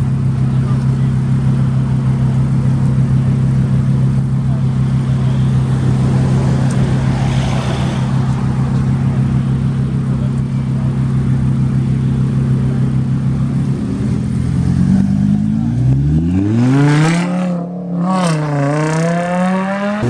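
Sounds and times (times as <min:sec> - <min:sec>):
car engine running: 0:00.0 - 0:17.1.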